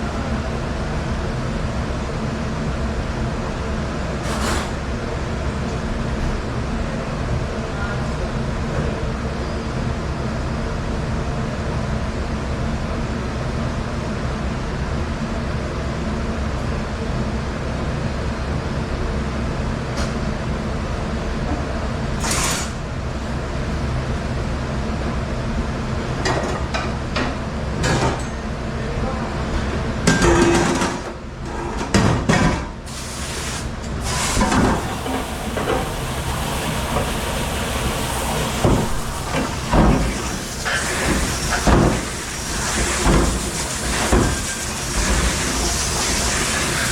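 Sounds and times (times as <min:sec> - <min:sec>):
steady mechanical hum: 0:00.0 - 0:46.9.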